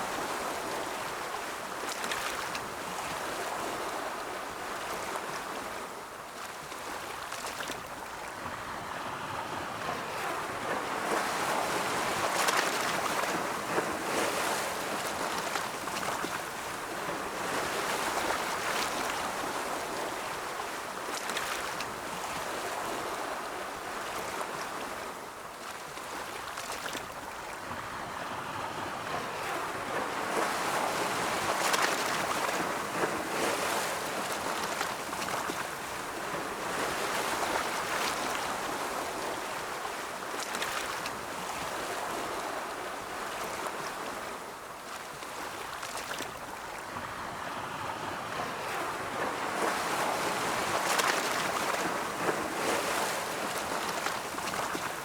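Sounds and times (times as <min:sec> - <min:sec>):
ocean waves rolling in: 0:00.0 - 0:55.0.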